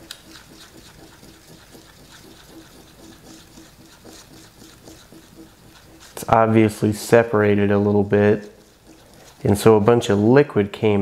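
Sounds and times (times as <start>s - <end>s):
tool stirring putty: 0.0s - 11.0s.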